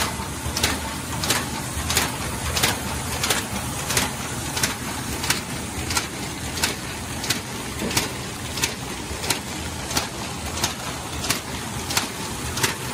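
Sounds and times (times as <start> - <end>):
paper bag machine running: 0.0 - 12.9
sharp mechanical clack: 0.0 - 12.9.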